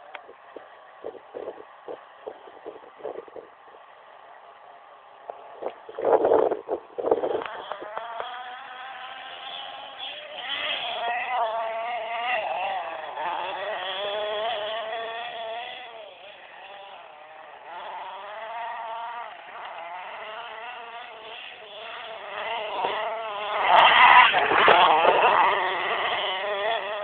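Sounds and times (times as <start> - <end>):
nitro engine whining: 0.0 - 27.0.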